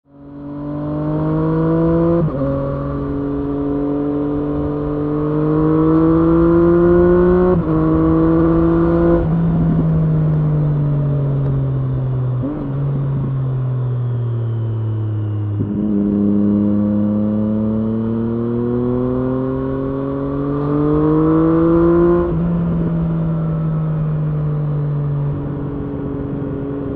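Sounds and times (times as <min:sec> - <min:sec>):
motorcycle engine accelerating: 0:00.1 - 0:26.9.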